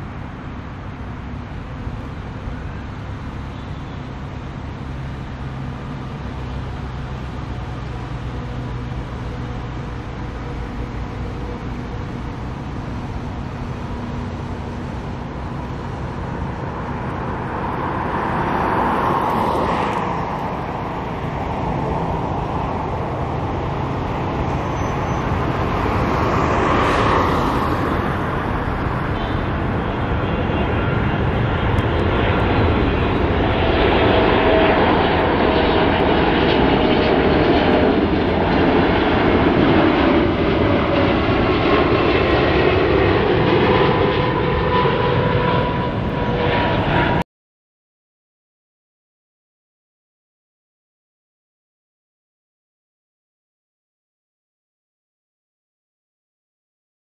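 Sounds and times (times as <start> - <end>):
jet engines roaring: 0.0 - 47.2.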